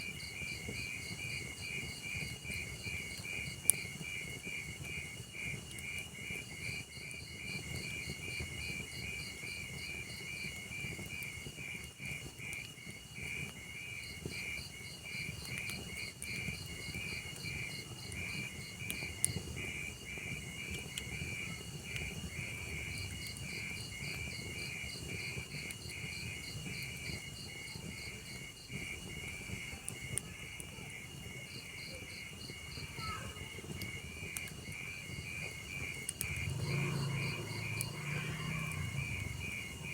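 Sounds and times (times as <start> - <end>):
wood fire crackling: 0.0 - 39.9
crickets chirping: 6.1 - 39.9.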